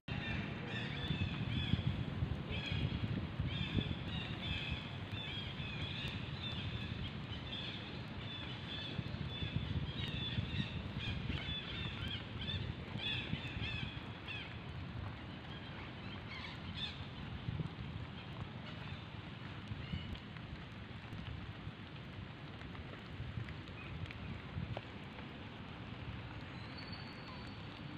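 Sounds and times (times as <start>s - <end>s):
wind rumble on microphone: 0.1s - 27.9s.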